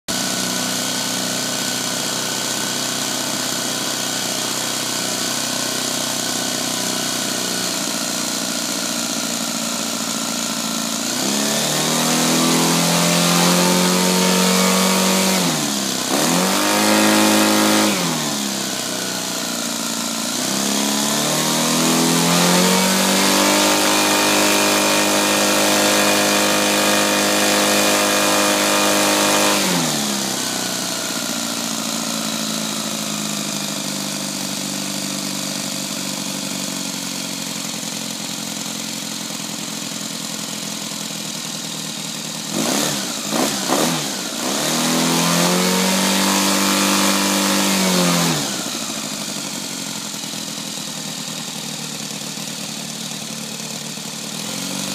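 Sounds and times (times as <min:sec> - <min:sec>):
model aircraft engine revving: 0:00.1 - 0:54.9.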